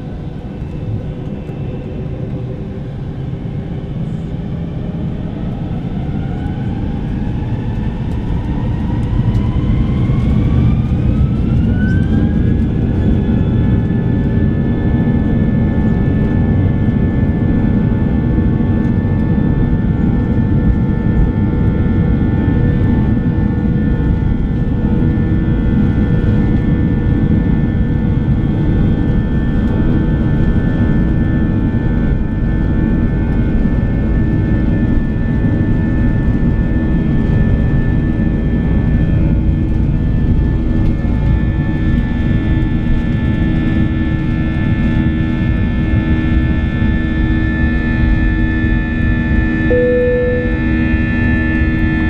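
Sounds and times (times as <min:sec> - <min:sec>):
jet engine rumble: 0:00.0 - 0:52.0
jet engine whine: 0:00.0 - 0:52.0.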